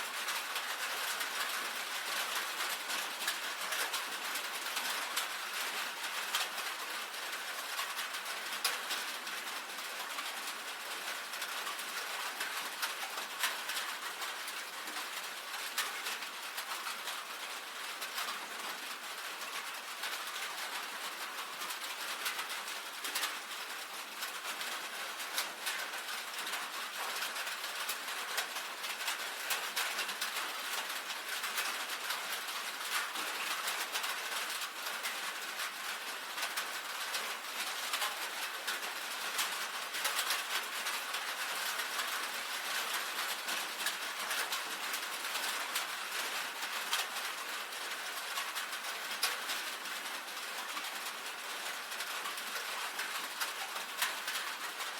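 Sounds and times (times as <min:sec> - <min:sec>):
rain on a tin roof: 0:00.0 - 0:54.9.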